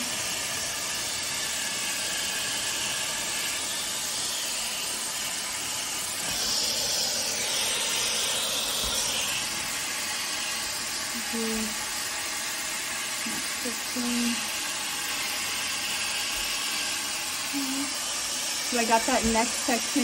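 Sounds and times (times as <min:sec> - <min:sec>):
hair styler blowing air: 0:00.0 - 0:20.0.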